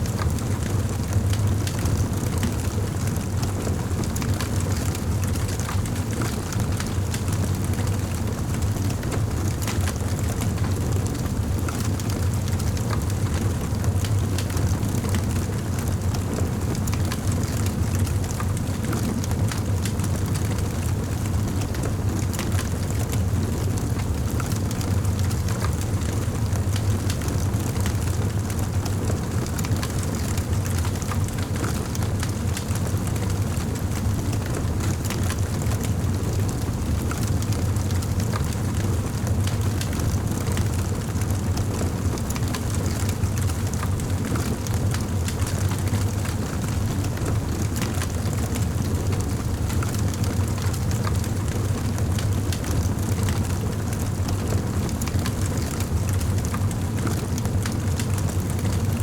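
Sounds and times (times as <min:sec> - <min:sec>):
wood fire rumbling: 0:00.1 - 0:59.0.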